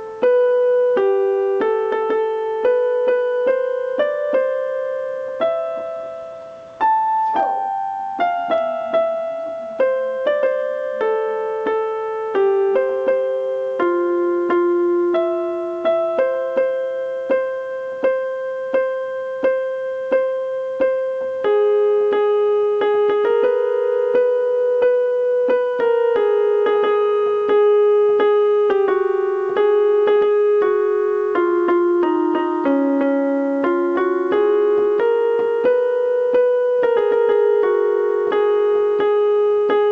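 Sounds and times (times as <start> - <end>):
gentle piano piece: 0.0 - 39.9.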